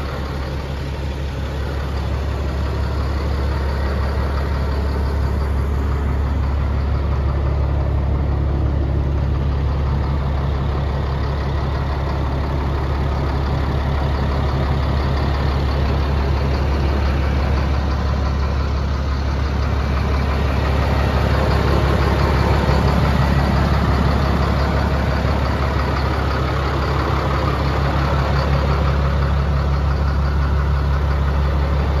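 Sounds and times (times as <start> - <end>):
truck diesel engine idling: 0.0 - 32.0.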